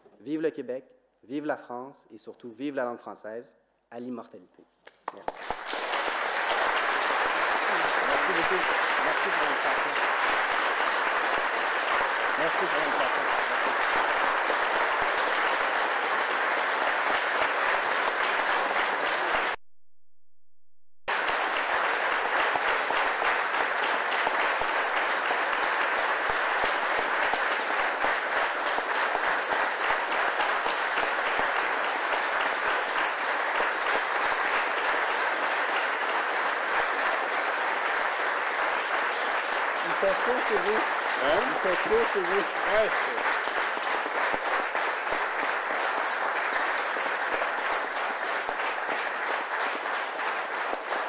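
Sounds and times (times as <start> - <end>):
audience applauding: 4.9 - 19.6, 21.1 - 51.0.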